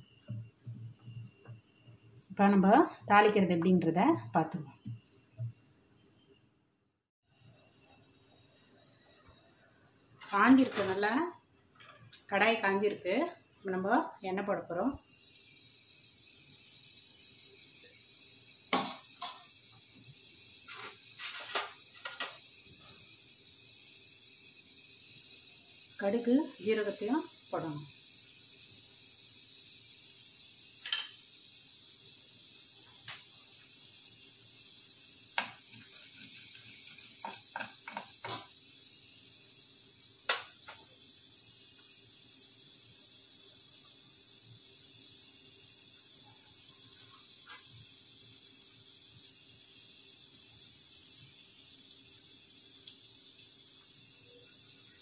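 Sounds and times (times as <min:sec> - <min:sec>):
seeds sizzling in hot oil: 0:00.0 - 0:06.5, 0:07.2 - 0:55.0.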